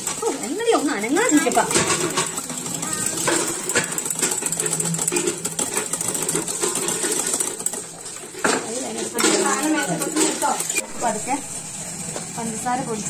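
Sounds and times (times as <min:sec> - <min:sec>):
whisk beating eggs in bowl: 0:00.0 - 0:10.8.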